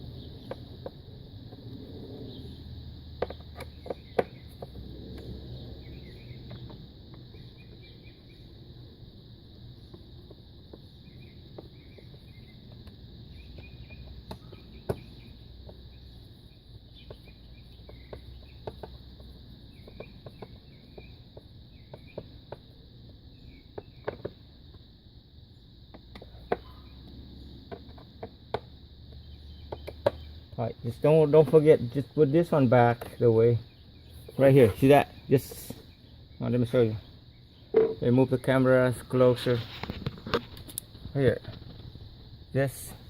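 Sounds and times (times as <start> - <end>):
birds chirping: 0.0 - 43.0
insects droning: 0.0 - 43.0.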